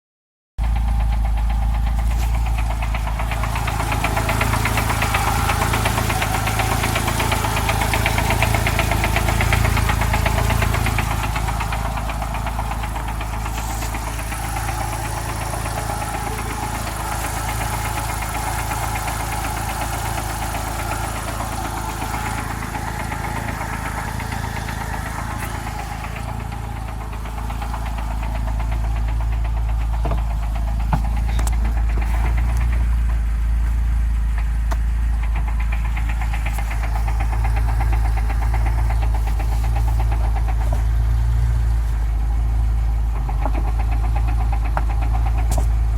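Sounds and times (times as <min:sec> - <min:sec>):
car engine running with knock: 0:00.6 - 0:45.9.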